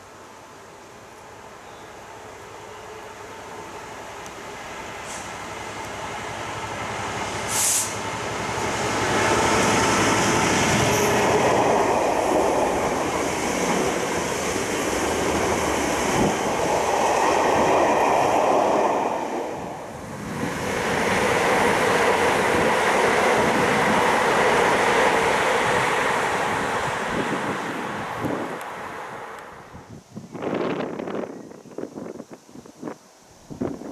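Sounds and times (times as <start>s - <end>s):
passenger train passing at speed: 0.0s - 33.9s.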